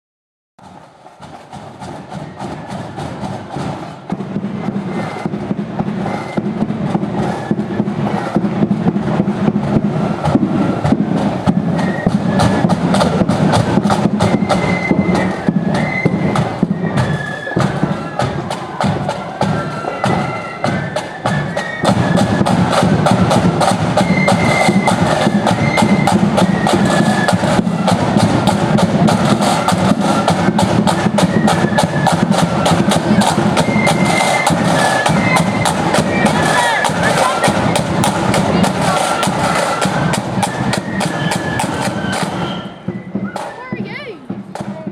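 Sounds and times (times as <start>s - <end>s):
steady bass drum: 0.6s - 16.9s, 20.7s - 44.9s
rapid snare drum strokes: 0.6s - 44.9s
flutes playing melody: 1.4s - 44.9s.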